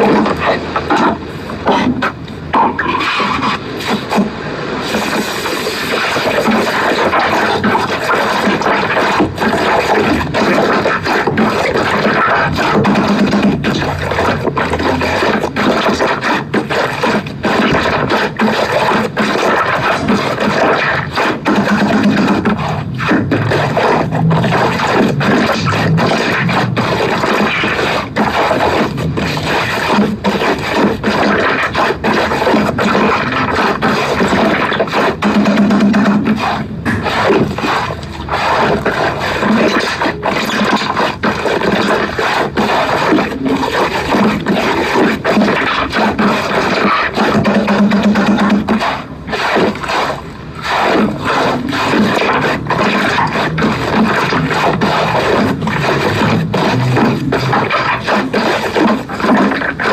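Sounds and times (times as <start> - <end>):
slime squishing and crackling: 0.0 - 59.9.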